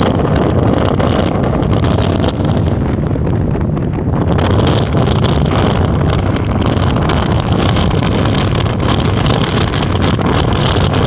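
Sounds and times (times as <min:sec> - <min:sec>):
ferry engine drone: 0:00.0 - 0:11.0
wind buffeting microphone: 0:00.0 - 0:11.0.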